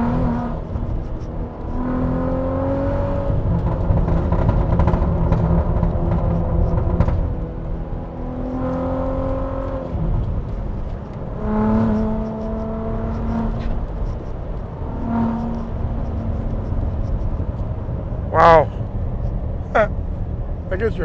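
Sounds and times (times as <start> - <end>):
car engine accelerating through gears: 0.0 - 20.9.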